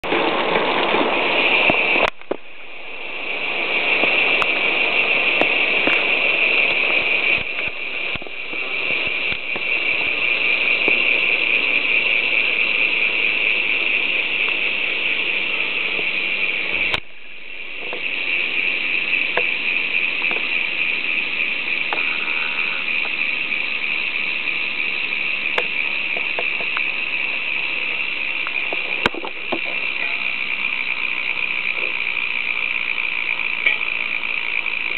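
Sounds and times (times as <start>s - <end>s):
bicycle hub freewheel buzzing: 0.0s - 34.9s.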